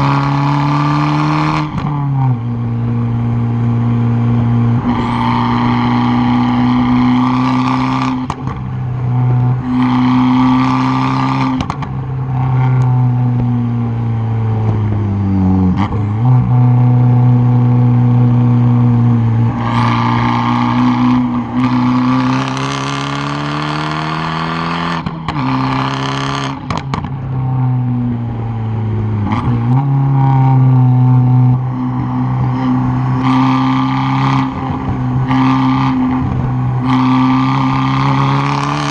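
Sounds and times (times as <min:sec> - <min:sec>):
car exhaust revving hard: 0:00.0 - 0:38.9.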